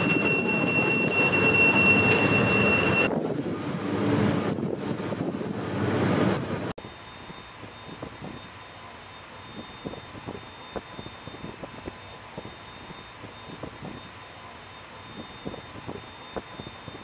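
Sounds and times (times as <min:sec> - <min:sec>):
wind noise: 0:00.0 - 0:06.7, 0:07.6 - 0:08.5, 0:09.5 - 0:14.1, 0:15.1 - 0:17.0
machinery noise with high whine: 0:00.0 - 0:17.0.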